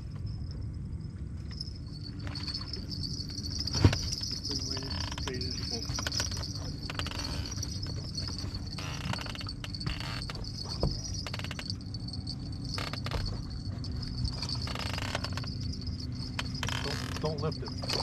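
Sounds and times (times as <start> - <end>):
low rumble: 0.0 - 18.0
high-pitched insect buzz: 1.9 - 17.9.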